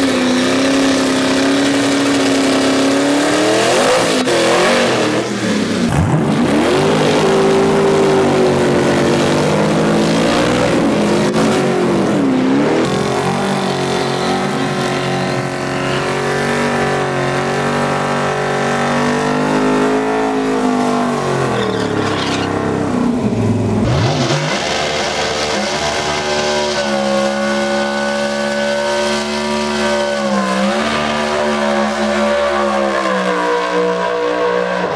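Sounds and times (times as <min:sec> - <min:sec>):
car engines revving high: 0:00.0 - 0:34.9.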